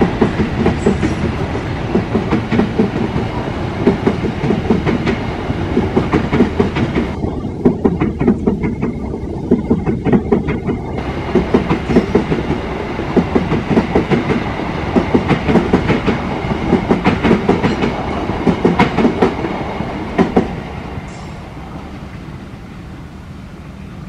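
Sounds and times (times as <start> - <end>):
wheels clattering over rail joints: 0.0 - 21.4
train rumble: 0.0 - 24.0.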